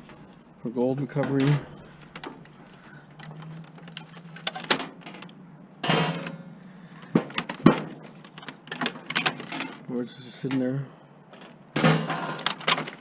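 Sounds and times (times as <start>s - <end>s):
plastic fax machine parts rattling: 0.0s - 6.4s, 7.1s - 10.7s, 11.3s - 13.0s
plastic parts clattering: 0.9s - 6.4s, 7.1s - 10.7s, 11.3s - 13.0s.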